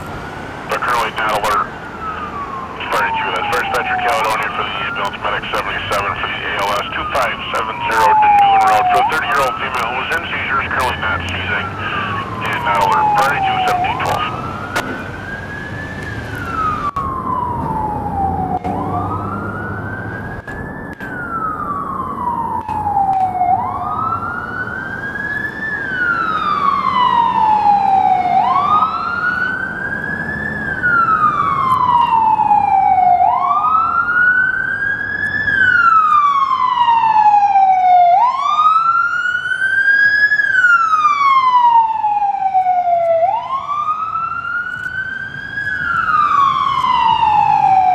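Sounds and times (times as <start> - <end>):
ambulance siren wailing: 0.0 - 47.9.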